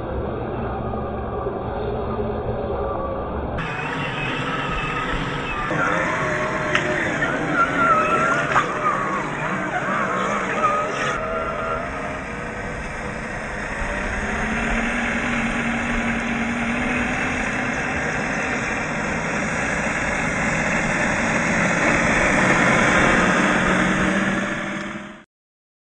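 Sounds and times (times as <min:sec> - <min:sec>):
electric motor and gears whining: 0:03.6 - 0:25.2.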